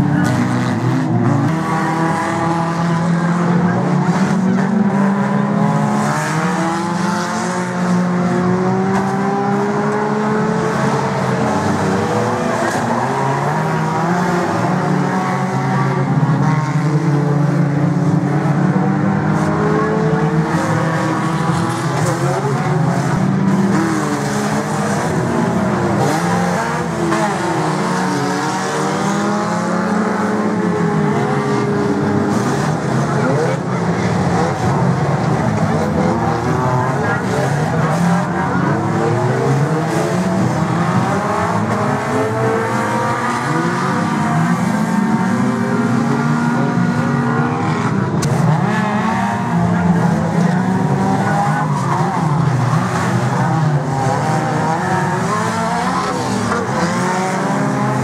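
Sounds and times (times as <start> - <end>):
racing car engines revving: 0.0 - 58.0.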